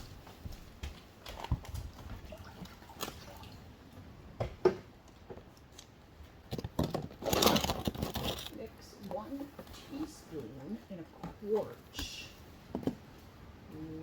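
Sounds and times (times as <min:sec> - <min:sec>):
rustling of things handled: 0:00.0 - 0:13.9.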